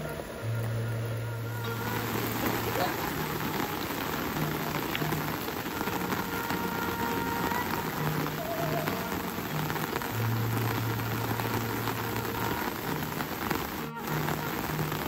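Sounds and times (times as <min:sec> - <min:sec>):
low hum: 0:00.0 - 0:12.4
steady rain falling: 0:00.0 - 0:15.0.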